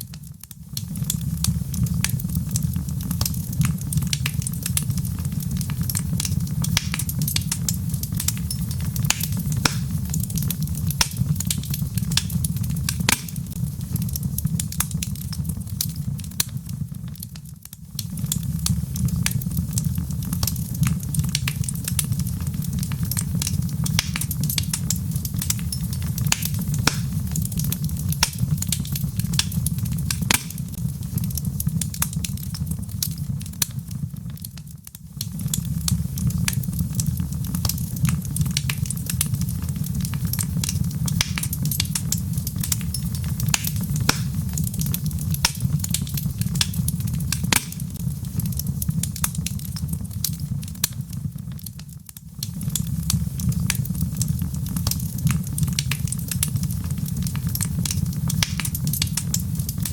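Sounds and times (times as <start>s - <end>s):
fire crackling and popping: 0.0s - 59.9s
flames rumbling: 0.0s - 59.9s.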